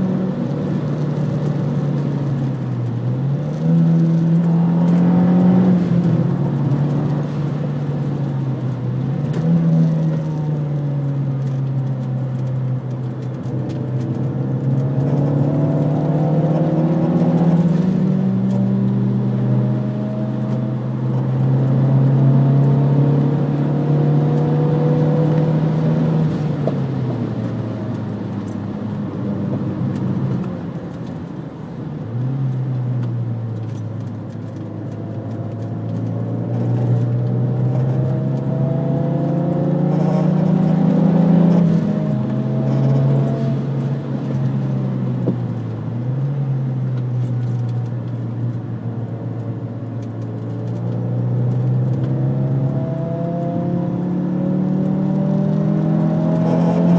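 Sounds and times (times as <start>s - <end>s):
car engine accelerating: 0.0s - 56.9s
road and wind noise: 0.0s - 56.9s.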